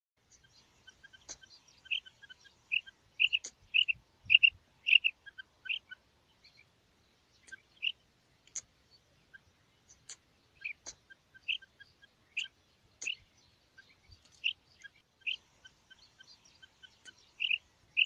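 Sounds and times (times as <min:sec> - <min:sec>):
quail chirping: 0:00.3 - 0:06.7, 0:07.4 - 0:18.0.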